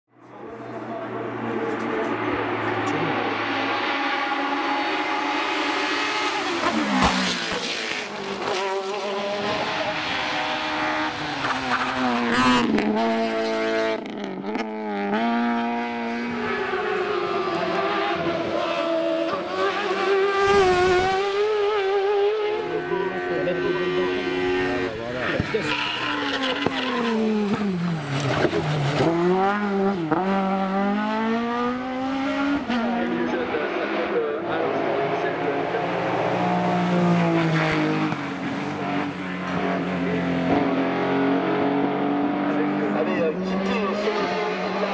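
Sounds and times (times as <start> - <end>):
race car engines revving: 0.1 - 44.9.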